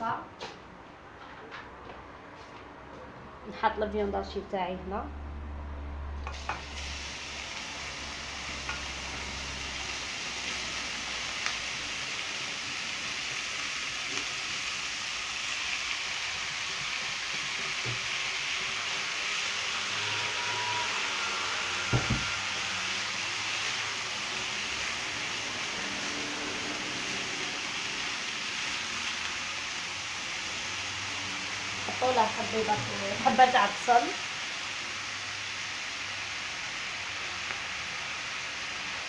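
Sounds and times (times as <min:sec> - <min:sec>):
meat sizzling in a pan: 0:06.2 - 0:39.0.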